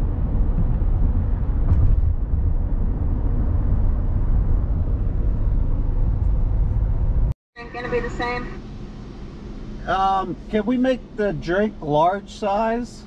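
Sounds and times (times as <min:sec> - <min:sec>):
car interior road rumble: 0:00.0 - 0:12.8.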